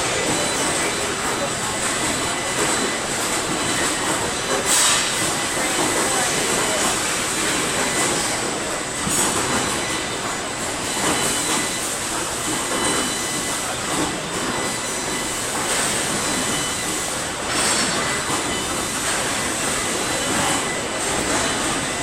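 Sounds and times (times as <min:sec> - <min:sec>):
factory machinery din: 0:00.0 - 0:22.0
tram rolling: 0:00.0 - 0:22.0.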